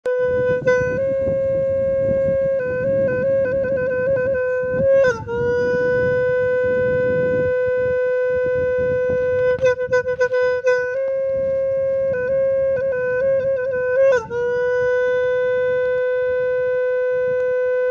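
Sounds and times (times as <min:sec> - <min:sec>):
reedy wind instrument playing: 0:00.0 - 0:17.9.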